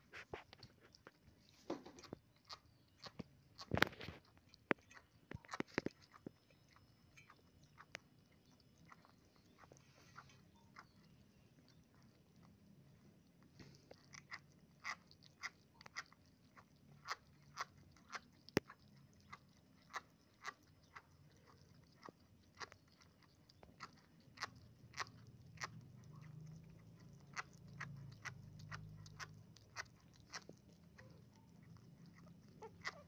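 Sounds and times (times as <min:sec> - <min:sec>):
kittens chewing with smacking clicks: 0:00.0 - 0:33.0.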